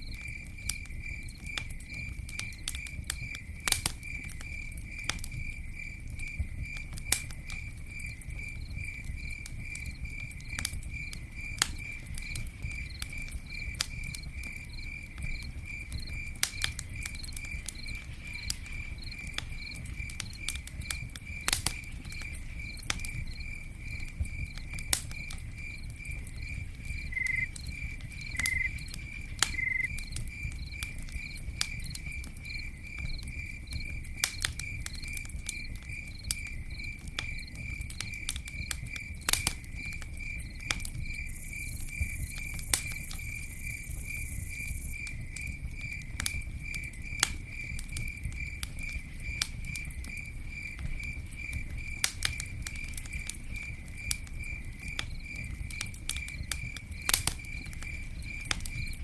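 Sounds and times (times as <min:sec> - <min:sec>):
campfire crackling and popping: 0:00.0 - 0:59.0
cricket chirping: 0:00.0 - 0:59.0.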